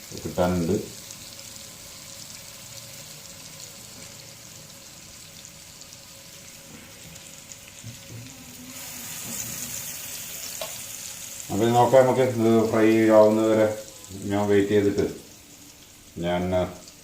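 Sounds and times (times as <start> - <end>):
mussels sizzling in oil: 0.0 - 17.0.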